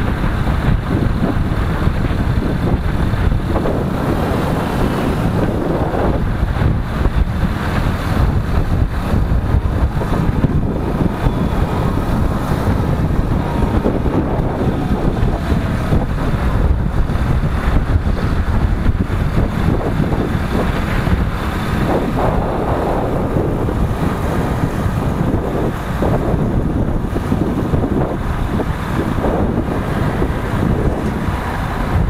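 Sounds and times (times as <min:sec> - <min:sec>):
road and engine noise: 0:00.0 - 0:32.0
wind buffeting microphone: 0:00.0 - 0:32.0.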